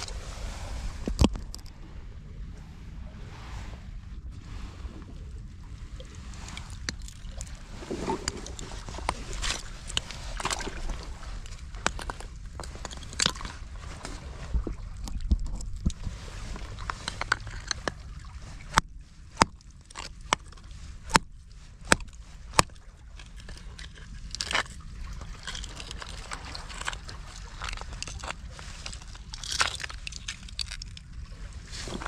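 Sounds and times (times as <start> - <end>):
seawater sloshing and trickling: 0.0 - 2.0, 2.6 - 32.0
stones shifting: 6.2 - 32.0.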